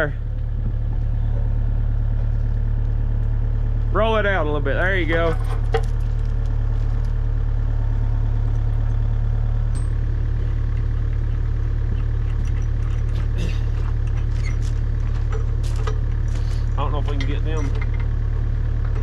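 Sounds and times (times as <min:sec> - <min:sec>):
diesel excavator engine running: 0:00.0 - 0:19.0.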